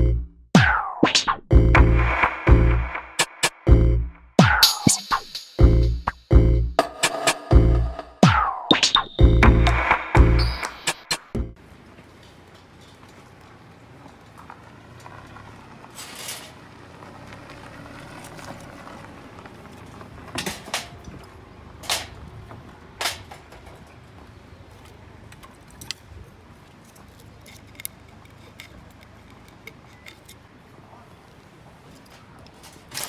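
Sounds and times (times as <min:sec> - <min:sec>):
faint outdoor background: 0:00.0 - 0:33.0.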